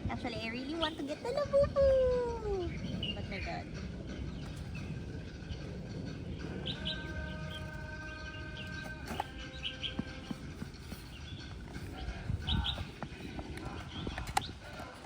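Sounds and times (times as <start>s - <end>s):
birds chirping: 0.0s - 15.0s
steady background hum: 0.0s - 15.0s.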